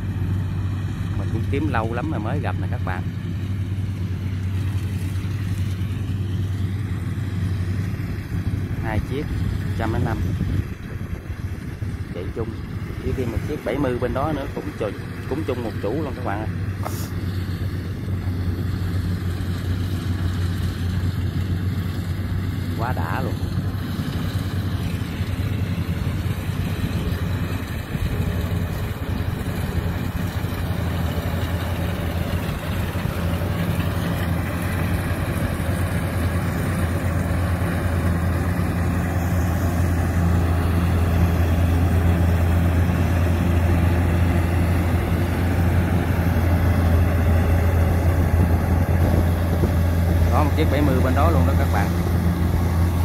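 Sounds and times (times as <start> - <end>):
combine harvester diesel engine: 0.0 - 53.0.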